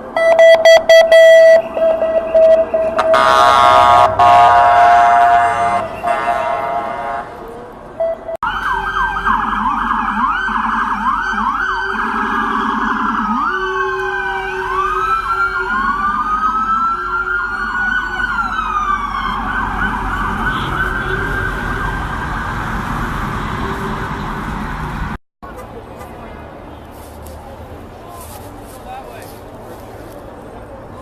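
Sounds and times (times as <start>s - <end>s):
emergency vehicle sirens: 0.0s - 25.2s.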